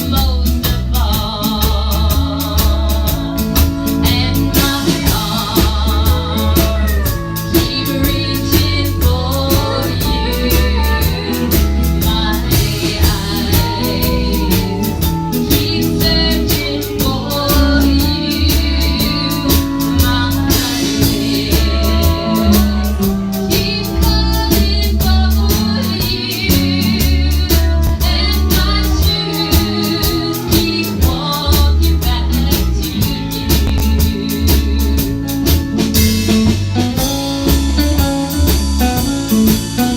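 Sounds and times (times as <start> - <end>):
woman singing lead: 0.0 - 39.1
drum kit beat: 0.0 - 39.9
guitar: 0.0 - 39.9.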